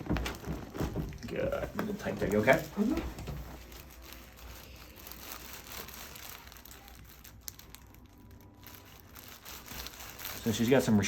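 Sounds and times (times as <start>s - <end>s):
rustling and crinkling on a table: 0.0s - 11.0s.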